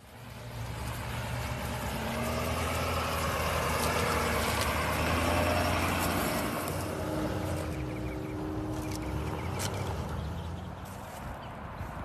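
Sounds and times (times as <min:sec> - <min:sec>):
truck engine droning: 0:00.0 - 0:11.4.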